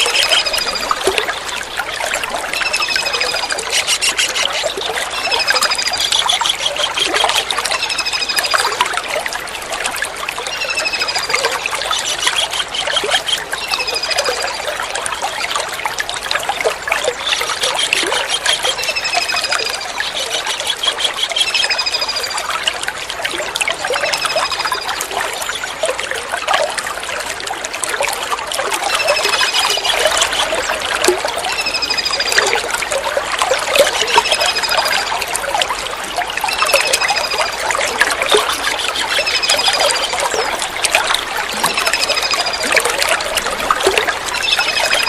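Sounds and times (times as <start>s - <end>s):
running water trickling: 0.0s - 45.0s.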